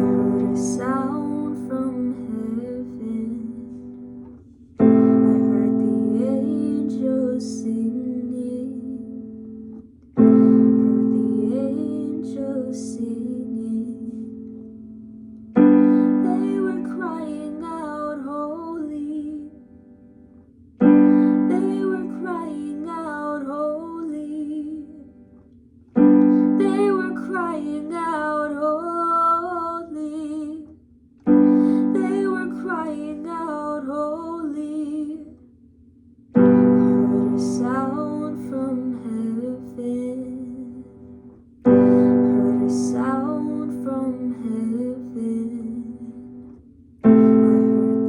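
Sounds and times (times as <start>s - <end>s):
woman singing: 0.0s - 4.2s, 4.8s - 14.9s, 15.6s - 20.0s, 20.8s - 25.3s, 26.0s - 35.4s, 36.4s - 48.0s
piano chords: 0.0s - 30.5s, 31.2s - 35.4s, 36.3s - 48.0s.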